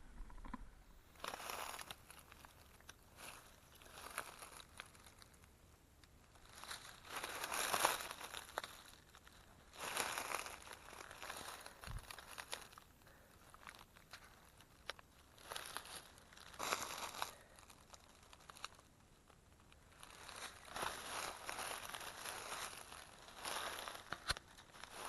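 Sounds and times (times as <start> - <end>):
footsteps through dry leaves: 1.1 - 5.3, 6.3 - 18.8, 19.8 - 25.0.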